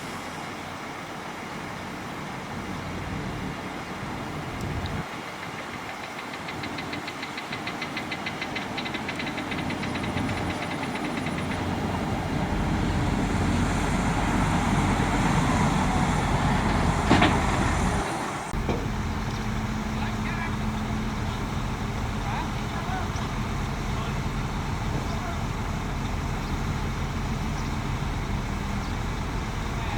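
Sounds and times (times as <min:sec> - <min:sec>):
heavy machinery diesel engine: 0:00.0 - 0:29.9.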